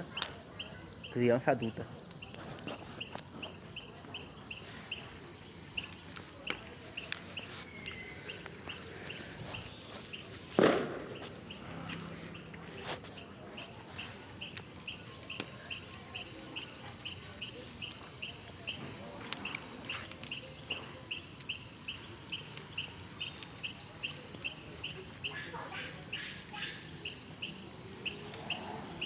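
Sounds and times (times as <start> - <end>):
small animal chirping: 0.0 - 10.3, 11.2 - 29.0
bonfire pops: 0.0 - 29.0.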